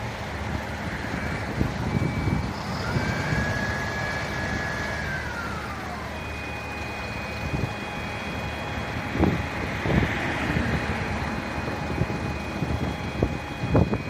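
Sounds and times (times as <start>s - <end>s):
engine and wind rumble: 0.0s - 14.0s
siren wailing: 0.0s - 14.0s.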